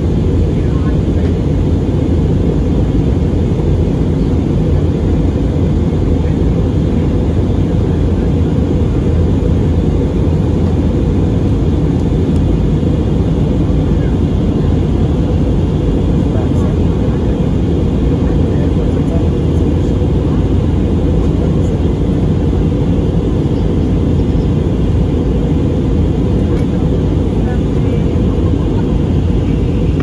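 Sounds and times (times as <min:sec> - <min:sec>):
airplane cabin roar: 0:00.0 - 0:30.0.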